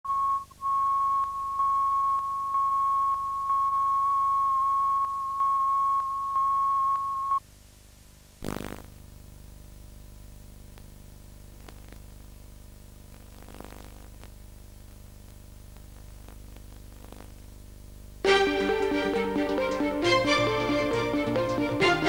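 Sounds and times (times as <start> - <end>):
steady line-up tone: 0.1 - 7.4, 8.4 - 22.0
low tape hum and hiss: 0.1 - 22.0.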